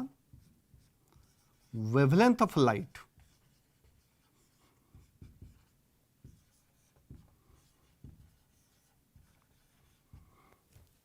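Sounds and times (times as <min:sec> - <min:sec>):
faint writing: 0:00.0 - 0:11.0.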